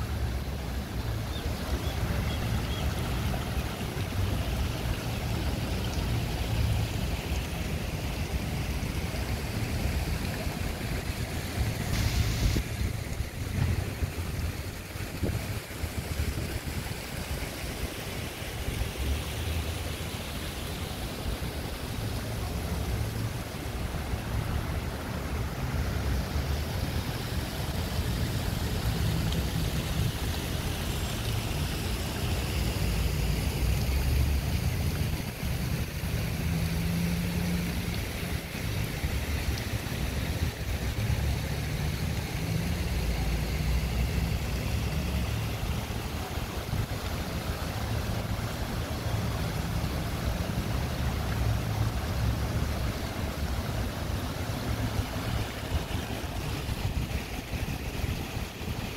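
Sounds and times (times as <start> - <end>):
water fountain splashing: 0.0 - 58.9.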